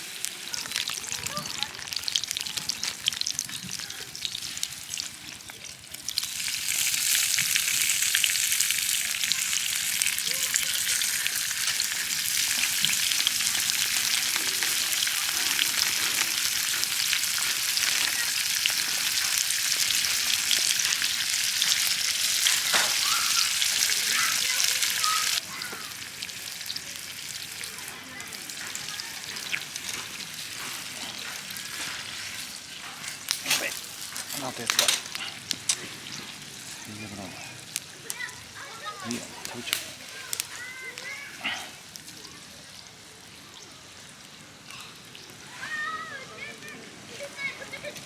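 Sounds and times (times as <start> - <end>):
food sizzling: 0.0 - 48.0.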